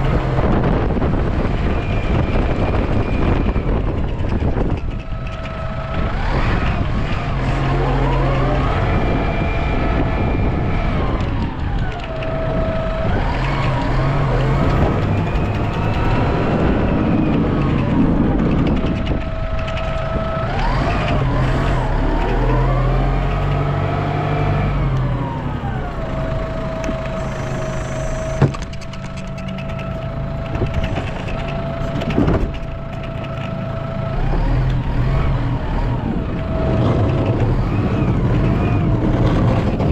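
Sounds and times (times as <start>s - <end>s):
steady whine: 0.0s - 39.9s
vehicle engine revving: 0.0s - 39.9s.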